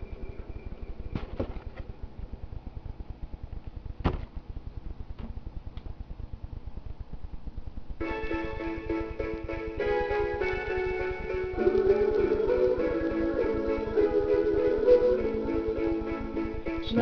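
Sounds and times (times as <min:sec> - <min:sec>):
low pulsing rumble: 0:00.0 - 0:17.0.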